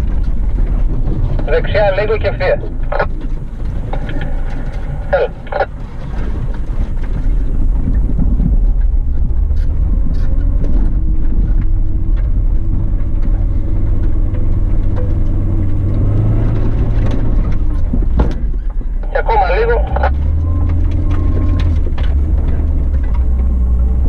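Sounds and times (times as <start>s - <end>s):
car engine running: 0.0s - 24.0s
car knocking over rough ground: 0.0s - 24.0s.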